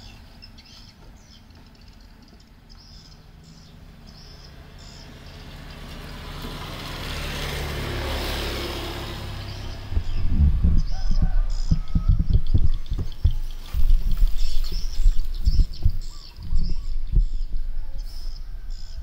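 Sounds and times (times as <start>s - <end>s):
motor vehicle passing by: 0.0s - 19.0s.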